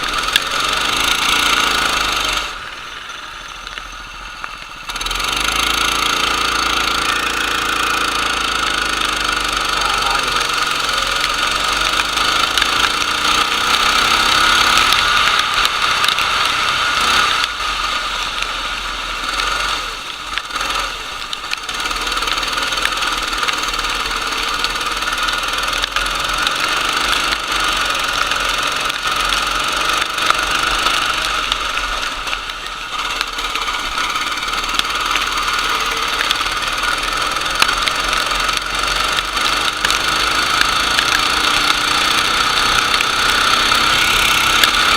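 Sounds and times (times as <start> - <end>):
kart engine running hard: 0.0 - 44.9.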